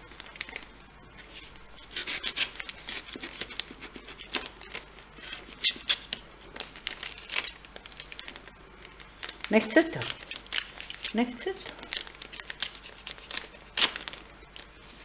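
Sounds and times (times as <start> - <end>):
paper and tape crinkling: 0.0 - 15.0.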